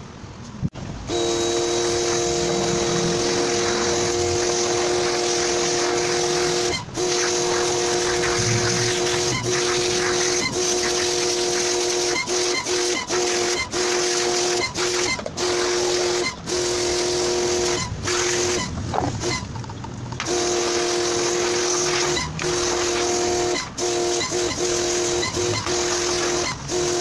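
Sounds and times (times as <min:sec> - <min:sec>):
pressure washer spraying water: 0:00.9 - 0:19.4, 0:20.2 - 0:27.0.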